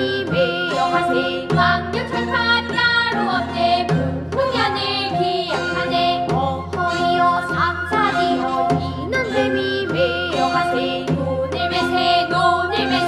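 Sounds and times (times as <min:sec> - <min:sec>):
children singing: 0:00.0 - 0:13.0
instrumental accompaniment: 0:00.0 - 0:13.0.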